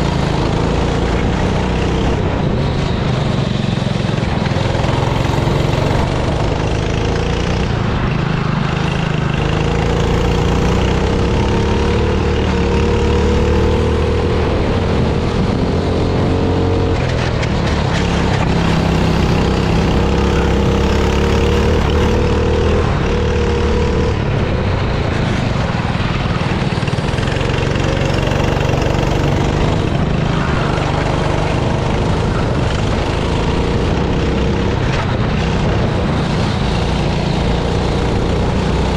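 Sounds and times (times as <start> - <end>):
kart engine revving: 0.0 - 38.9
wet tyres on track: 0.0 - 38.9.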